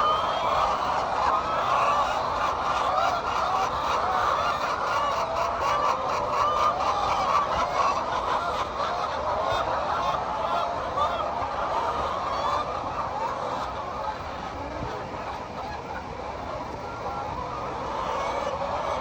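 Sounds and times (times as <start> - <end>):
flock of hens calling: 0.0 - 19.0.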